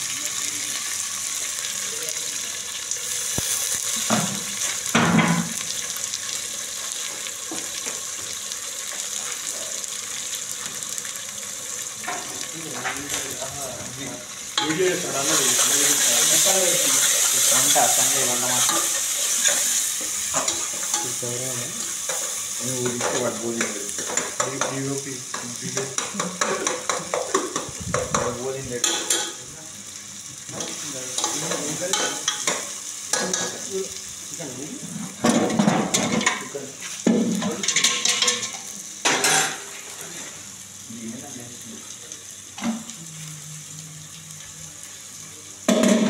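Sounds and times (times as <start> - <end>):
onions sizzling: 0.0 - 46.0.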